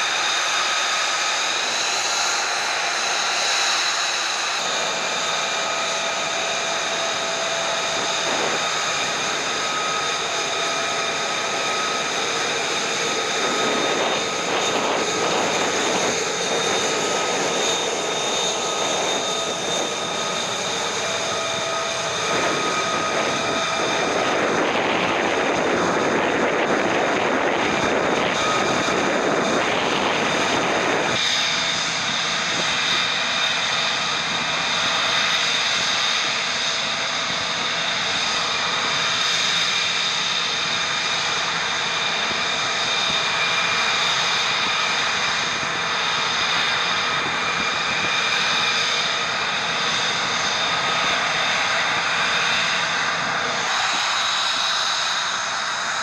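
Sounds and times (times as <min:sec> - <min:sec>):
jet engine rushing with high whine: 0:00.0 - 0:56.0.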